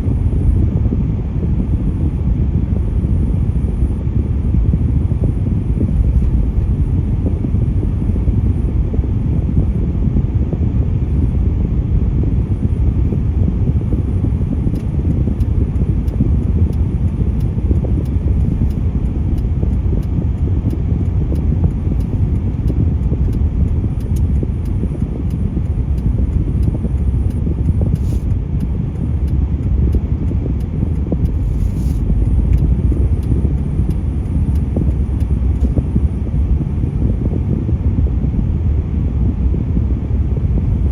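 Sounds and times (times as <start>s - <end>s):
low rumble of road traffic: 0.0s - 40.9s.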